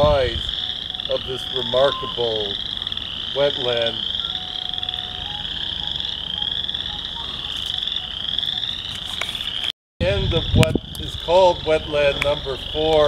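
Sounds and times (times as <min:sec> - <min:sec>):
frogs chorus calling: 0:00.0 - 0:09.7, 0:10.4 - 0:13.0.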